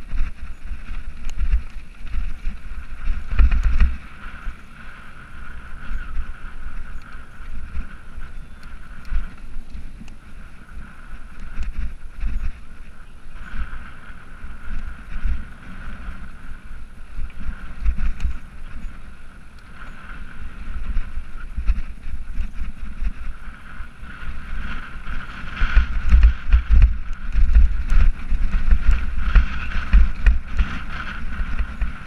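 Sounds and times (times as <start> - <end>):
bike rattling over stones: 0.0 - 14.2, 19.8 - 32.0
steady whir: 0.0 - 32.0
wind buffeting microphone: 0.0 - 32.0.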